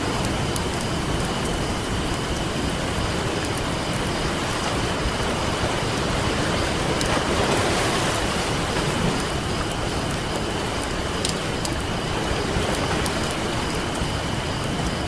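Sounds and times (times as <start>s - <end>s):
campfire crackling pops: 0.0s - 15.0s
ocean surf washing: 0.0s - 15.0s.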